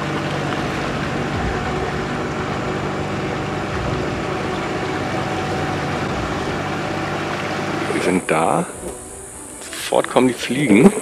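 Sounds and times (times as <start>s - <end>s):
boat motor running: 0.0s - 10.0s
boat wash through water: 0.0s - 11.0s.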